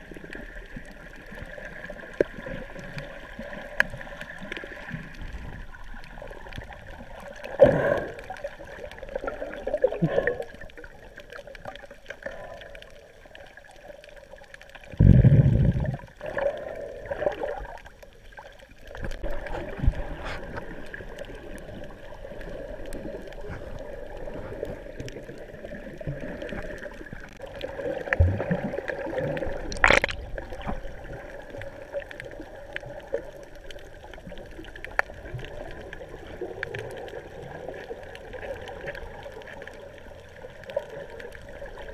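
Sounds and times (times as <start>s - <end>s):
muffled underwater gurgling: 0.0s - 41.9s
water swishes: 0.0s - 41.9s.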